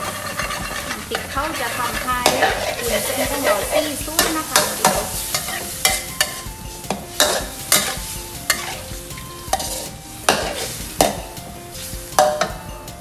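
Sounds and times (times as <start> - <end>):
spatula scraping a pan: 0.0 - 12.7
food sizzling: 0.0 - 13.0.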